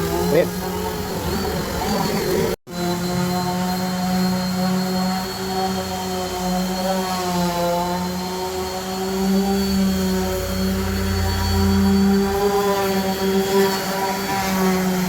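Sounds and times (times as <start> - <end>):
electric sander on wood: 0.0 - 15.0.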